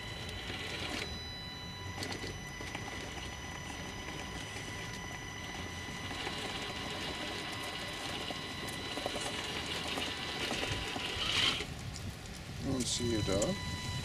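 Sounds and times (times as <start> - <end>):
electric motor whining: 0.0 - 11.7.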